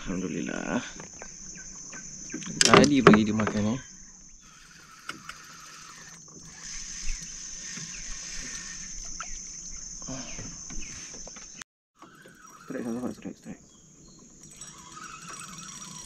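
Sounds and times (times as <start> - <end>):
high-pitched insect buzz: 0.0 - 16.0.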